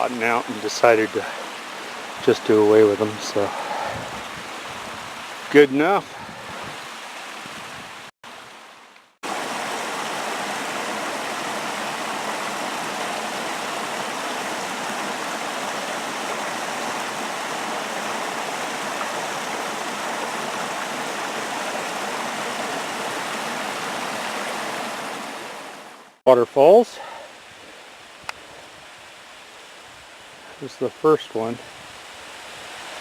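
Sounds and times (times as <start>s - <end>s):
creek cascading over rocks: 0.0s - 33.0s.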